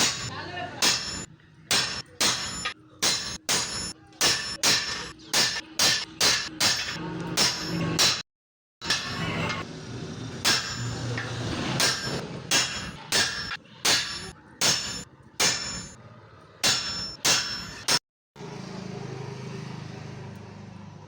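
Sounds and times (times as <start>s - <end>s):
hammer striking steel: 0.0s - 16.0s, 16.6s - 18.0s.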